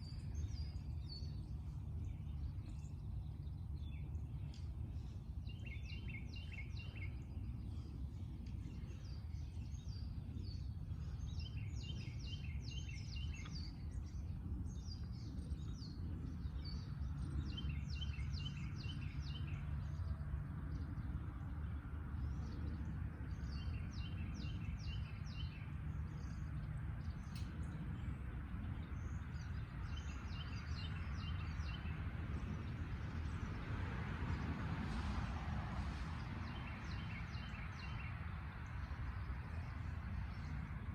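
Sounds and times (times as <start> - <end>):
low background rumble: 0.0 - 40.9
songbird chirping: 0.0 - 40.9.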